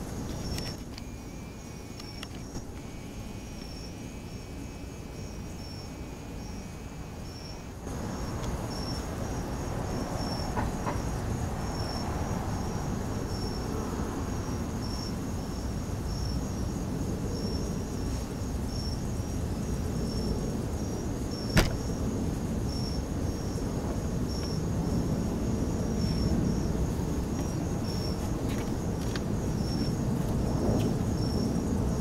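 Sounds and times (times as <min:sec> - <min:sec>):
crickets trilling: 0:00.0 - 0:32.0
lower insect trill: 0:00.0 - 0:32.0.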